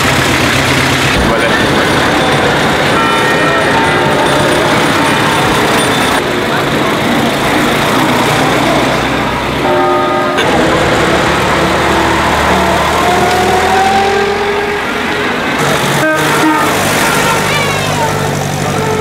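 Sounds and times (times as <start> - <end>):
old car engines running: 0.0 - 19.0
tyres on wet road: 0.0 - 19.0.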